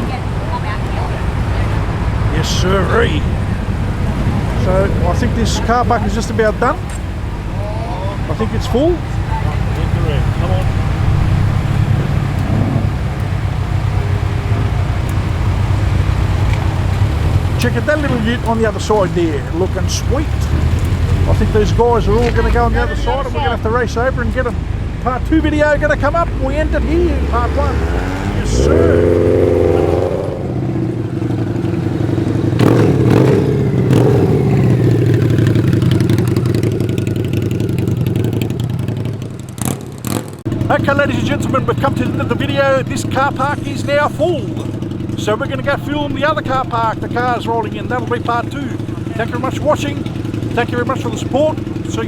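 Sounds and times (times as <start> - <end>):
car engine running: 0.0 - 52.0.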